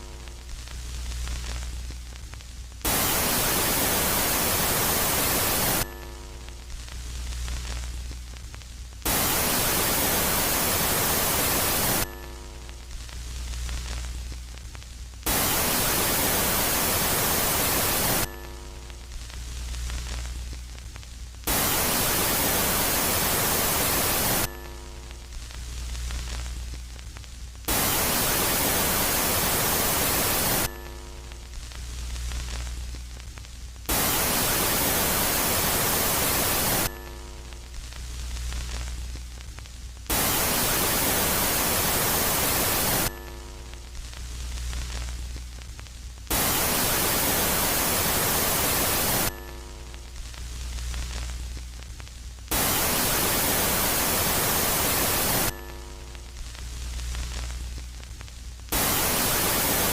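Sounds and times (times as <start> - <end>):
loud bursts of static hiss: 0.0 - 59.9.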